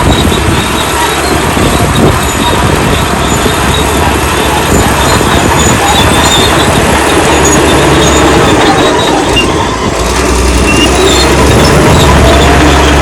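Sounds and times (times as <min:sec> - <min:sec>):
bulldozer diesel engine running: 0:00.0 - 0:13.0
metallic squeaks from steel tracks: 0:00.0 - 0:13.0.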